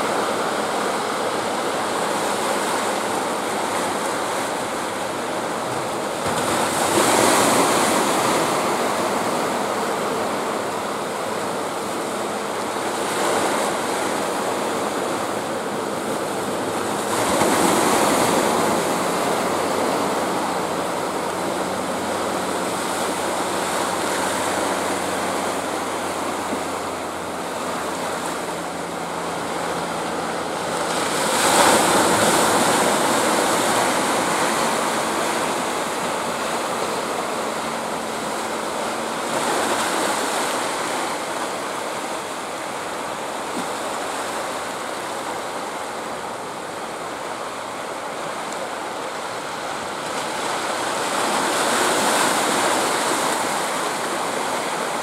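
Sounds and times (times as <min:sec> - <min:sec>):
low hum of boat engine: 0:00.0 - 0:55.0
surf breaking and washing: 0:00.0 - 0:55.0.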